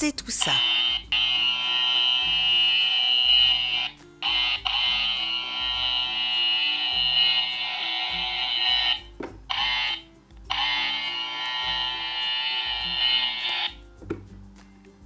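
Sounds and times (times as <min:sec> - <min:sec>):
background music: 0:00.0 - 0:15.0
toy hair trimmer buzzing: 0:00.6 - 0:13.8.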